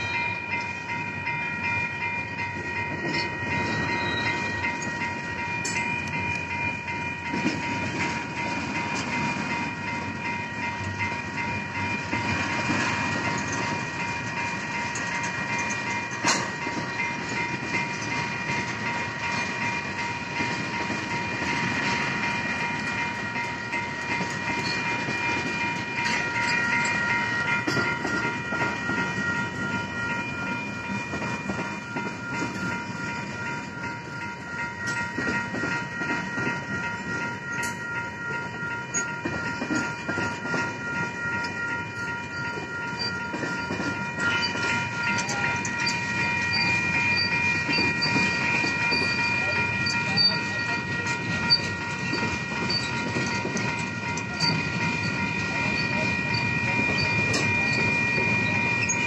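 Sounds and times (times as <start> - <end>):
crossing signal bell ringing: 0.0 - 59.0
train wheels clacking over rails: 0.0 - 59.0.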